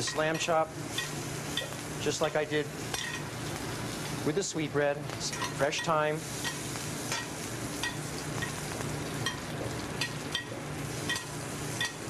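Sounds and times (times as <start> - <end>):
meat sizzling in butter: 0.0 - 12.0.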